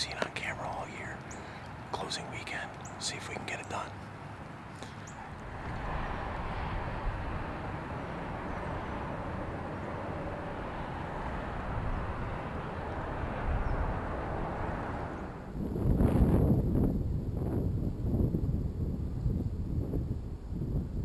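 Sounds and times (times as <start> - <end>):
distant low rumble: 0.0 - 21.0.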